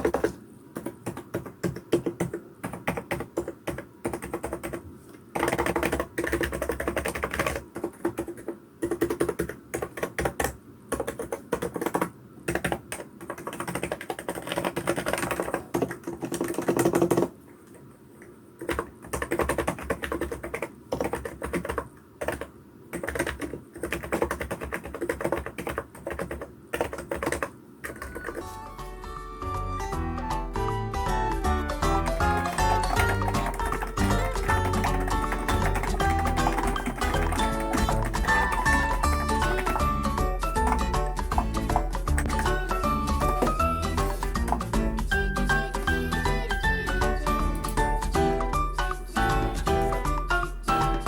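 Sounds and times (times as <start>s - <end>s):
fast keyboard typing: 0.0s - 17.9s, 18.6s - 28.6s, 31.3s - 51.0s.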